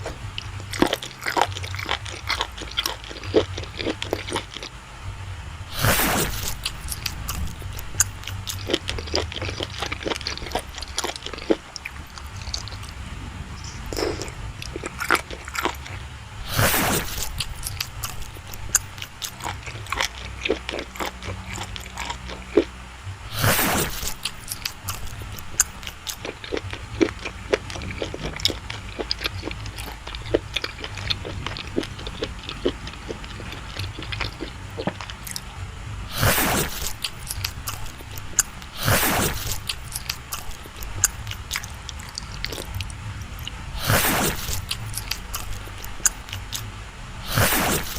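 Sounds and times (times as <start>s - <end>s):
chewing with wet mouth clicks: 0.0s - 4.8s, 5.7s - 13.0s, 13.6s - 47.9s.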